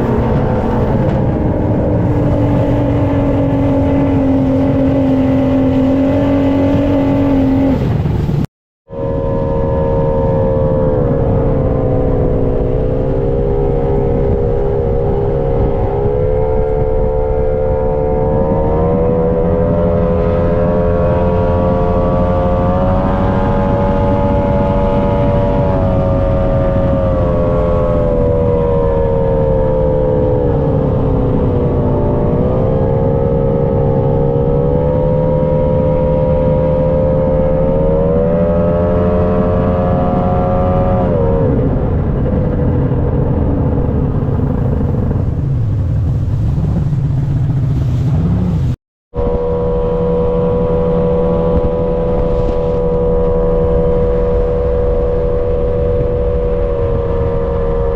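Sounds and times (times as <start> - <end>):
rushing water noise: 0.0 - 8.5, 9.1 - 48.8
powerboat engine running hard: 0.0 - 57.9.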